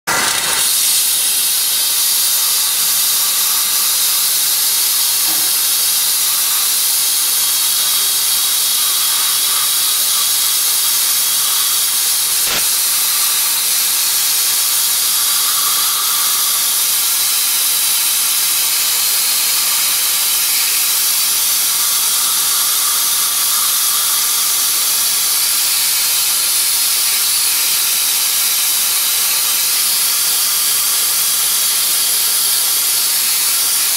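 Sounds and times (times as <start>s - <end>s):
abrasive blaster hissing: 0.1s - 33.9s.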